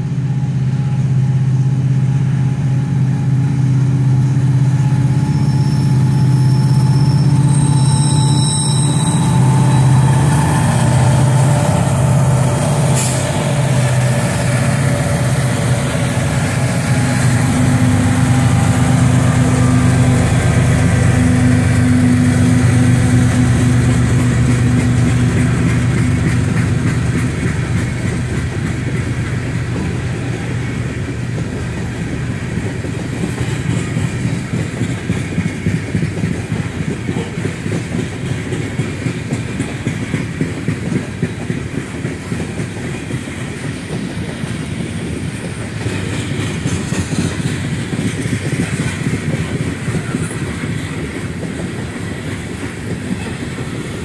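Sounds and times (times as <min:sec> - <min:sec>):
locomotive engines droning: 0:00.0 - 0:54.0
train wheels clattering on rail: 0:00.0 - 0:54.0.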